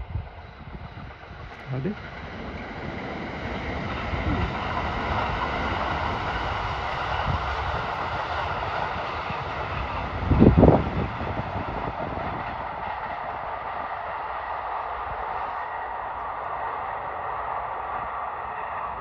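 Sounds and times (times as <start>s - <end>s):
distant trains rolling on rails: 0.0s - 19.0s
wind buffeting microphone: 0.0s - 19.0s.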